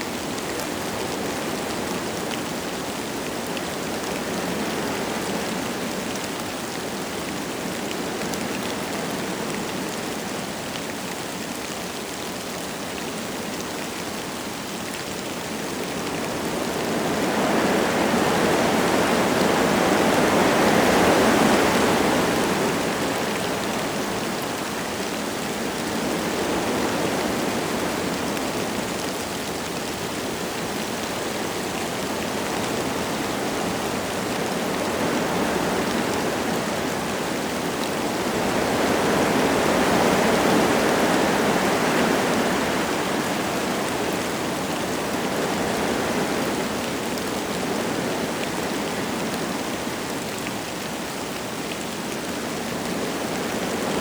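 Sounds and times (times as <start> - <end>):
light rain falling: 0.0 - 54.0
wind through trees: 0.0 - 54.0.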